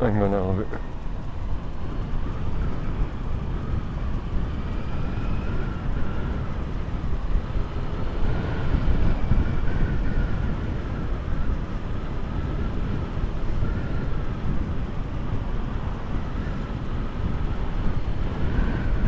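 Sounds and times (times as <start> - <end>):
motorcycle engine whine: 0.0 - 19.0
wind and road noise: 0.0 - 19.0.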